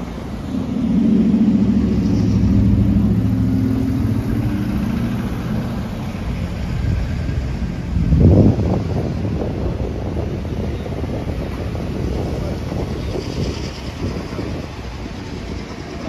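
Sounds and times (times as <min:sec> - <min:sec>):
traffic driving past: 0:00.0 - 0:16.0.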